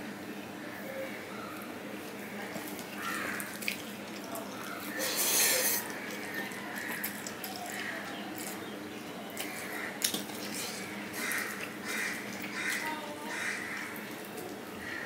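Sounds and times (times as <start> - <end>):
chewing: 1.6 - 15.0.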